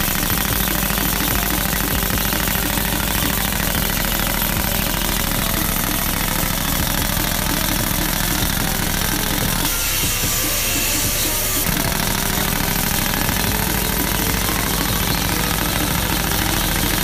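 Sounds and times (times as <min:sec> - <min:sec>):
rapid pneumatic drill hammering: 0:00.0 - 0:17.0.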